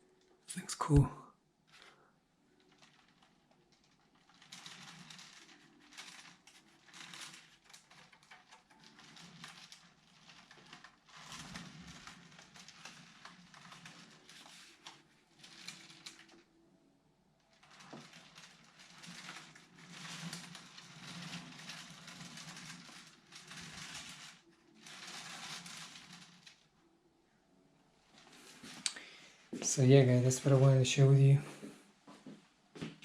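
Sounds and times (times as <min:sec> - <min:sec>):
faint rustling and scratching: 0:01.6 - 0:33.0.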